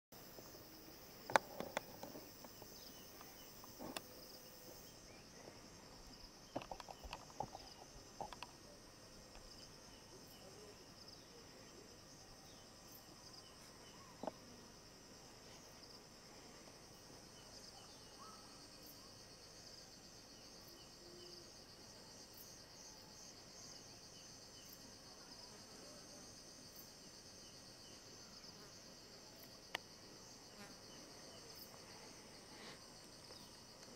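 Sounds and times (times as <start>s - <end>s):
insects chorus: 0.2s - 33.9s.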